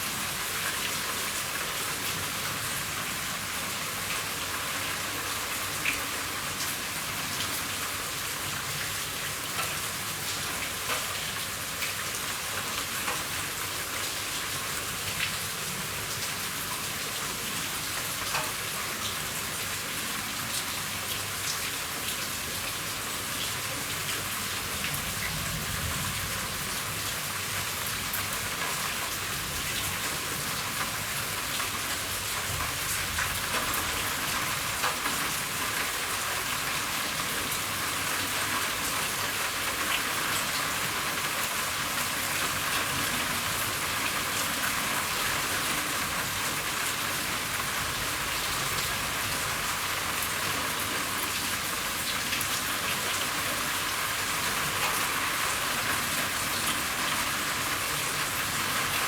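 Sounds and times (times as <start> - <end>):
rain on a roof: 0.0 - 59.0.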